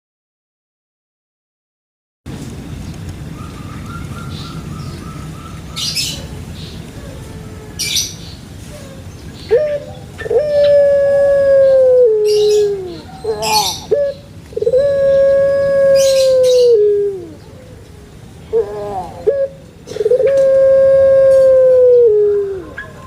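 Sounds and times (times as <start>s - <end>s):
bird singing long calls: 3.3s - 23.0s.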